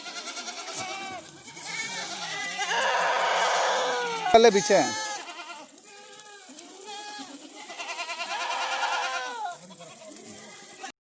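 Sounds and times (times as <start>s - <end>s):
goats bleating: 0.0s - 11.0s.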